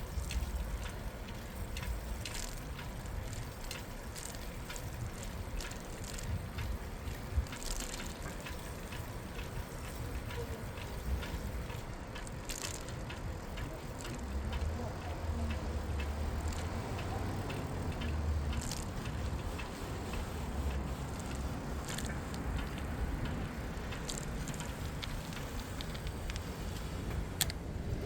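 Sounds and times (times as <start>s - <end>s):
bicycle clicking and rattling: 0.0s - 28.0s
wind and tyres rumbling: 0.0s - 28.0s.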